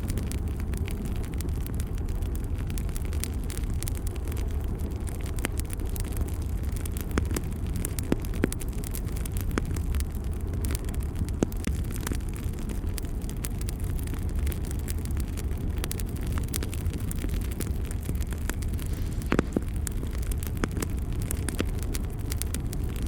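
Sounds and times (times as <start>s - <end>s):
fire crackles and pops: 0.0s - 23.0s
fire rumbling: 0.0s - 23.0s.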